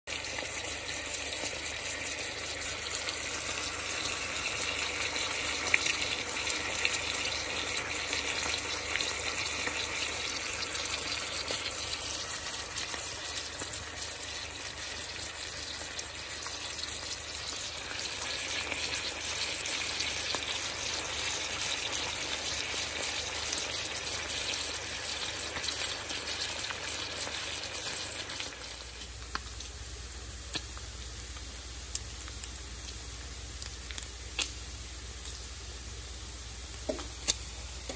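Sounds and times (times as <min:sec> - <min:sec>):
bacon sizzling in a pan: 0:00.1 - 0:37.9.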